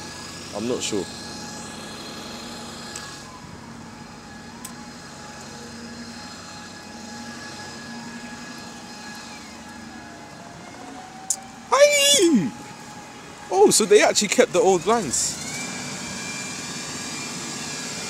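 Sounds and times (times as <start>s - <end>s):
bus engine running: 0.0s - 18.0s
faint whines sliding in pitch: 0.0s - 18.0s.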